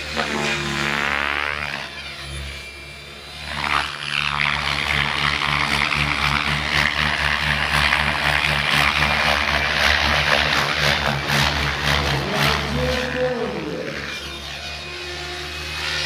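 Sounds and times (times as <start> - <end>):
rc helicopter rotor droning: 0.0 - 16.0.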